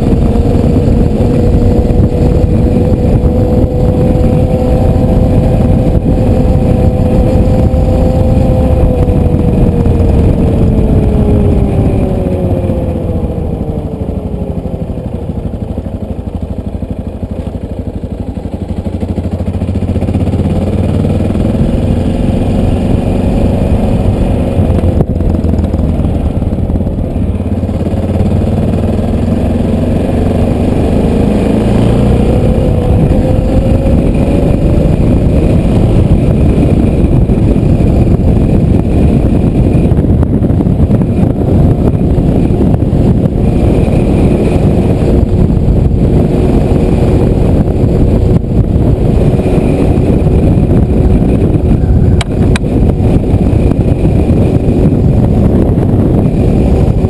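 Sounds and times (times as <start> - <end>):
motorcycle engine accelerating: 0.0 - 57.0
wind and road noise rush: 0.0 - 57.0.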